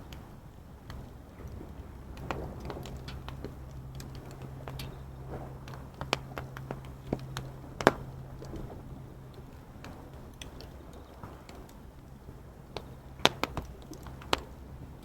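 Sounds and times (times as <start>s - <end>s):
faint low hum: 0.0s - 15.0s
wood fire crackling and popping: 0.0s - 15.0s.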